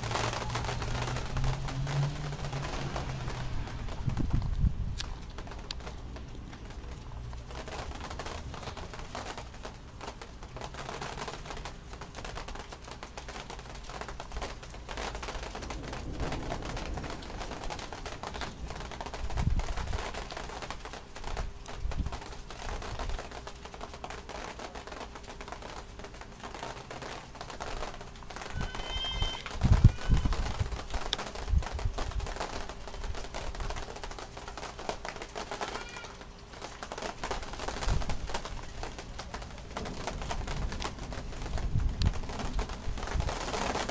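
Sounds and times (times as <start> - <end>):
heavy rain falling: 0.0 - 43.9
raindrops ticking on hard surface: 0.0 - 43.9.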